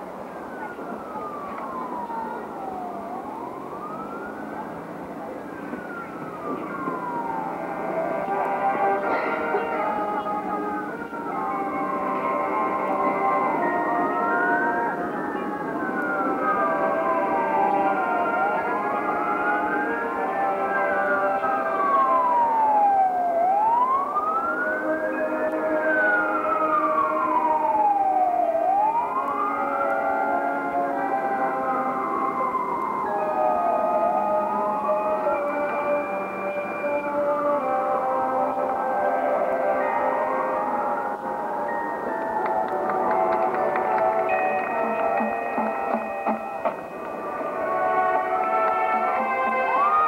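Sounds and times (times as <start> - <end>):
siren wailing: 0.0 - 50.0
wind instruments holding chords: 6.7 - 50.0.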